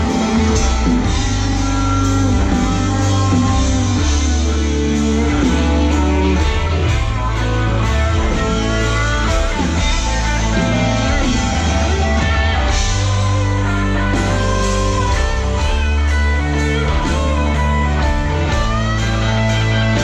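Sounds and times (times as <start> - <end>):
drums keeping a steady beat: 0.0 - 20.0
electric guitar: 0.0 - 20.0
held bass notes: 0.0 - 20.0.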